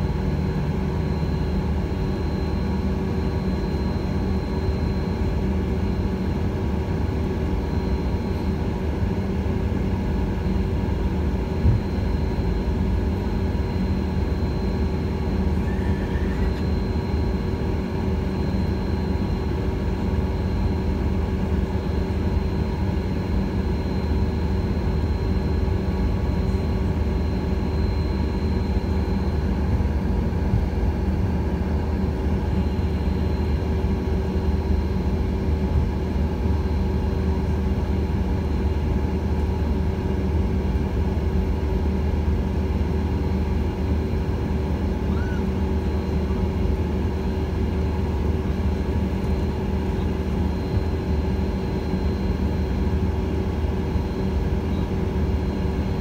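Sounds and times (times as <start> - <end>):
jet engines taxiing: 0.0 - 56.0.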